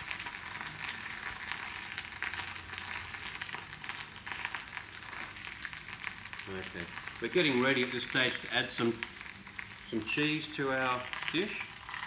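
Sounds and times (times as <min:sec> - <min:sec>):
food sizzling and crackling in oil: 0:00.0 - 0:12.0.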